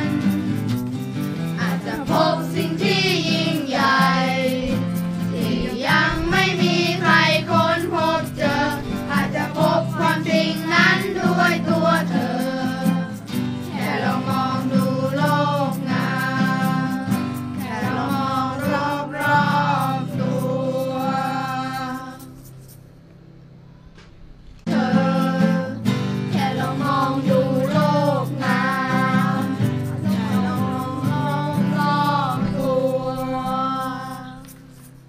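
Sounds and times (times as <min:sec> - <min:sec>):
group singing with children: 0:00.0 - 0:22.5, 0:24.7 - 0:34.6
rhythmic accompaniment: 0:00.0 - 0:35.0.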